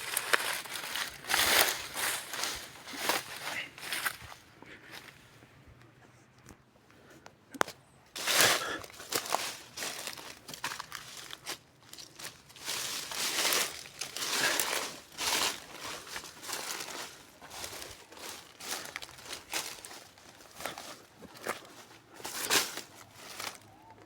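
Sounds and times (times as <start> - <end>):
footsteps crunching dry leaves: 0.0 - 5.2, 8.2 - 24.0.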